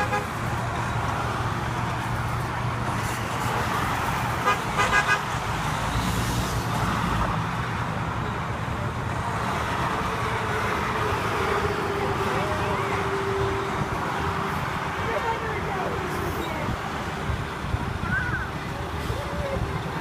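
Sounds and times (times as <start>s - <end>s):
trucks passing: 0.0s - 20.0s
tyre and road noise: 0.0s - 20.0s.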